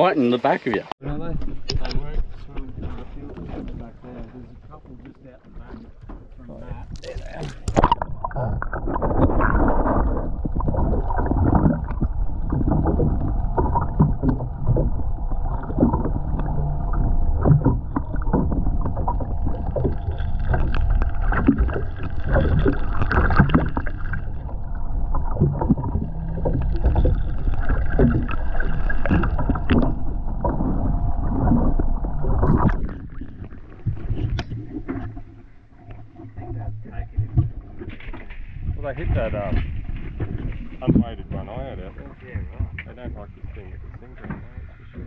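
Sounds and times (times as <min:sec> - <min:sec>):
underwater rumble of moving water: 0:01.0 - 0:45.0.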